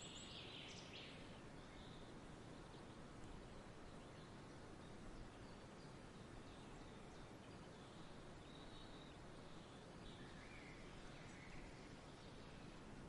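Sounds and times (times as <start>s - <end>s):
distant bird chirps: 0.0s - 12.8s
soft background hiss: 0.0s - 13.0s.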